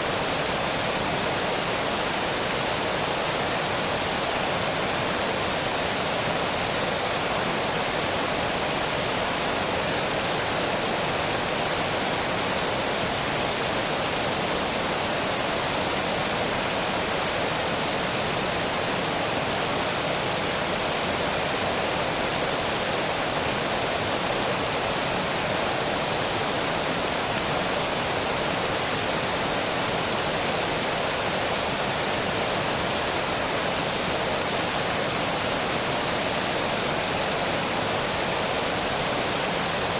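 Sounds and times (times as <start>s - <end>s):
water rushing over a dam: 0.0s - 39.9s.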